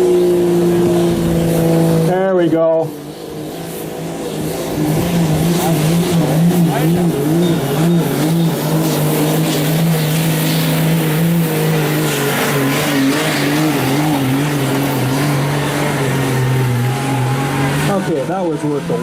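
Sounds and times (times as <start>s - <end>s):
diesel truck engine running hard: 0.0s - 19.0s.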